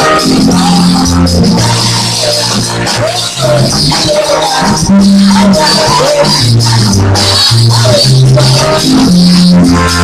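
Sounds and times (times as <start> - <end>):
loud music with bass notes: 0.0 - 10.0.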